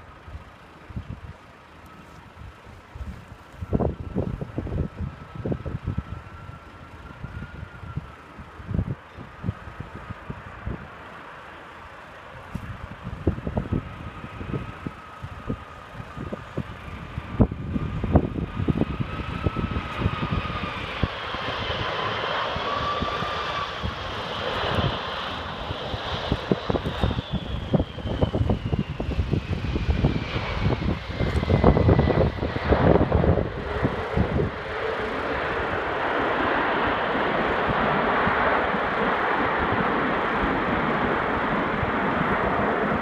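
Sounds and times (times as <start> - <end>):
jet engines whining and rumbling: 0.0 - 43.0.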